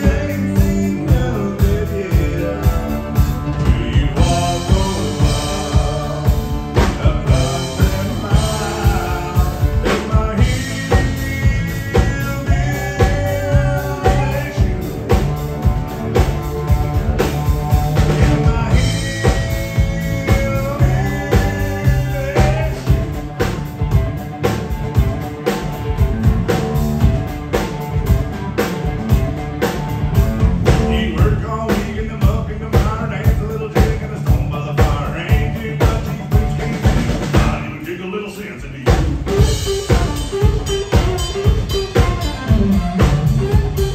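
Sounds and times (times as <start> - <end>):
drum kit beat: 0.0 - 43.9
live country band playing: 0.0 - 43.9.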